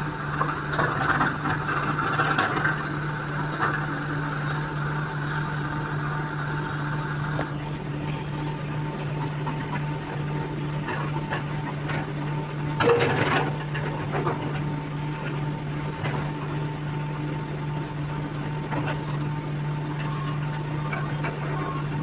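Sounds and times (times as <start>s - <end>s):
excavator engine humming: 0.0s - 22.0s.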